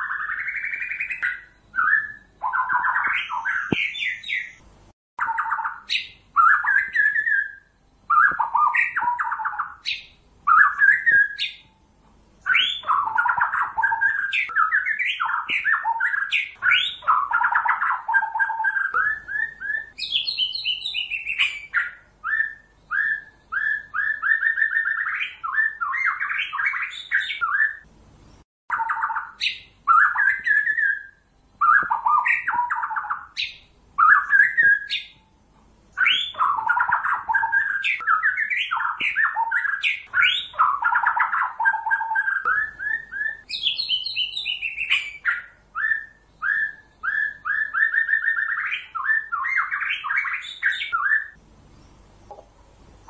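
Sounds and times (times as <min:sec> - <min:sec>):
songbird singing trills: 0:00.0 - 0:53.0.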